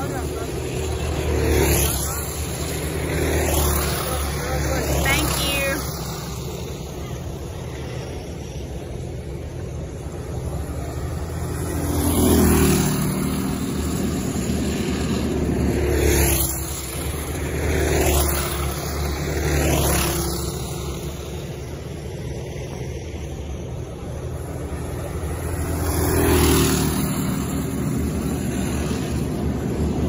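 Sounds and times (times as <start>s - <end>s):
kart engines droning: 0.0s - 30.0s
kart passing close: 0.0s - 30.0s.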